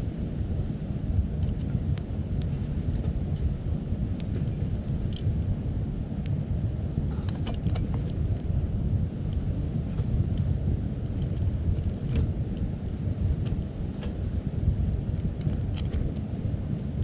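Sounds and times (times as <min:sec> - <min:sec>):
steady low rumble: 0:00.0 - 0:17.0
wood fire crackling: 0:00.0 - 0:17.0.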